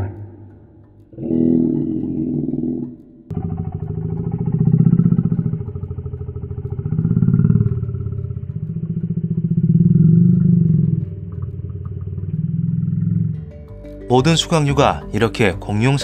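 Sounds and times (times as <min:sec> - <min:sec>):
low pulsing growl: 0:00.0 - 0:15.3.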